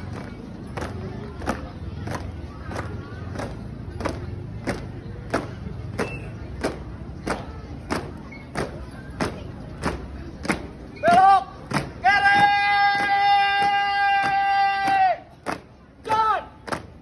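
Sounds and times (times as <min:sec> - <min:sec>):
marching shoes stamping on paving: 0:00.0 - 0:17.0.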